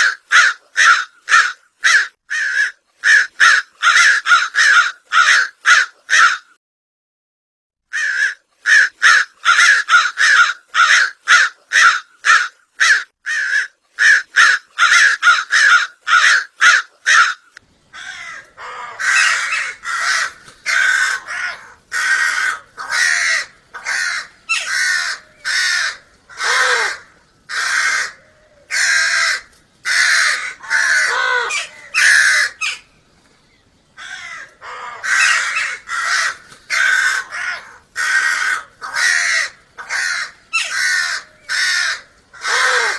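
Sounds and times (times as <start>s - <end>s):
crows cawing: 0.0s - 6.5s, 7.9s - 42.9s.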